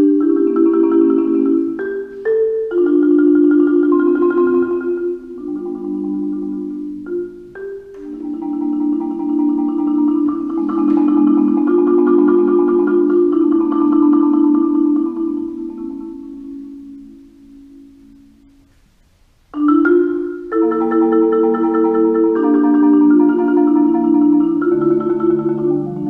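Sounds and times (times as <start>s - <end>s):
marimba rolled chords: 0.0s - 18.8s, 19.5s - 26.0s.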